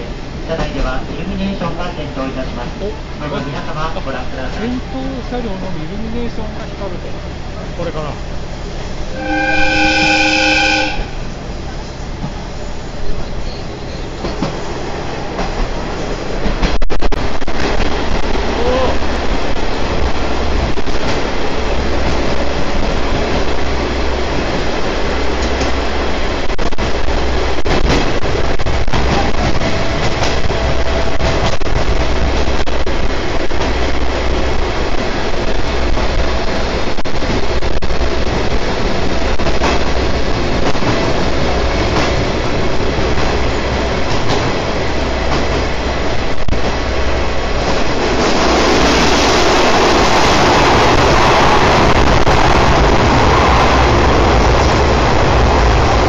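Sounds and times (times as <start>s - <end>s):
train wheels rumbling on rail: 0.0s - 56.0s
rail joint clicks: 0.4s - 3.1s, 10.9s - 56.0s.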